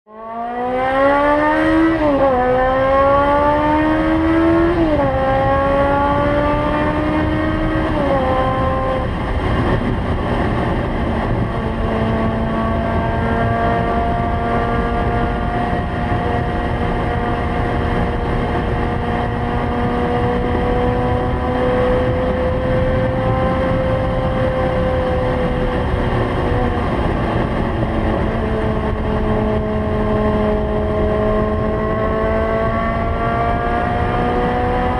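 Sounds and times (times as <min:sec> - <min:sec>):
motorcycle engine revving hard: 0:00.1 - 0:34.9
constant rushing noise: 0:01.7 - 0:34.9.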